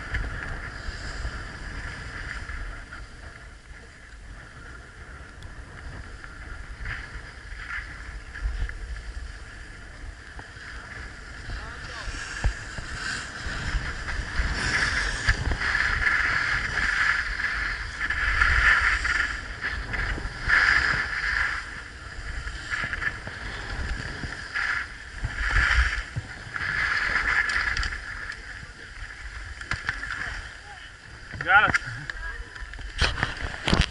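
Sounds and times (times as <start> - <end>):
skis scraping on snow: 0.0 - 33.9
wind rumble on microphone: 0.0 - 33.9.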